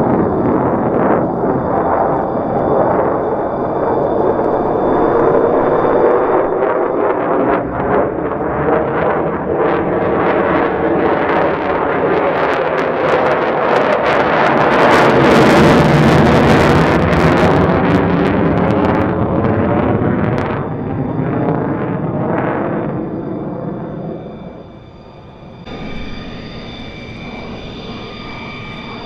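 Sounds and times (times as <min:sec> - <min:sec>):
jet engine roaring with crackling: 0:00.0 - 0:29.0.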